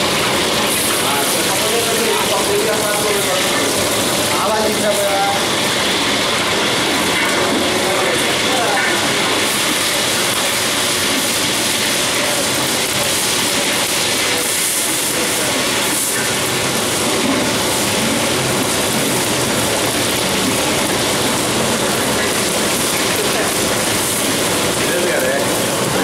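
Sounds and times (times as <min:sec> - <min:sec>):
gas burner hissing: 0:00.0 - 0:26.0
oil sizzling and crackling: 0:00.0 - 0:26.0.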